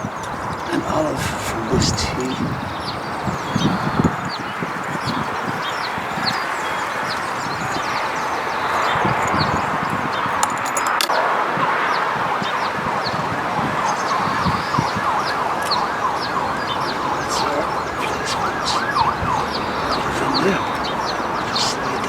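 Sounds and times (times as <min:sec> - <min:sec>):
chorus of birds calling: 0:00.0 - 0:22.0.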